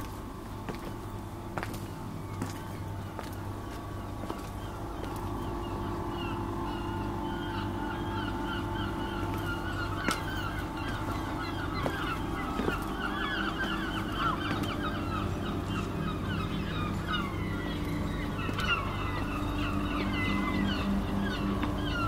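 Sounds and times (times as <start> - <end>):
low mechanical hum: 0.0 - 22.0
flock of birds squawking: 2.3 - 22.0.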